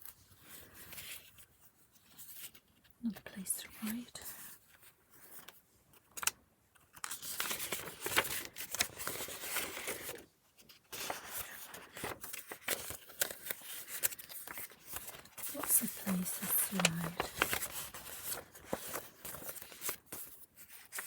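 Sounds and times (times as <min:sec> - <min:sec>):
paper pages rustling and crinkling: 0:00.0 - 0:21.0.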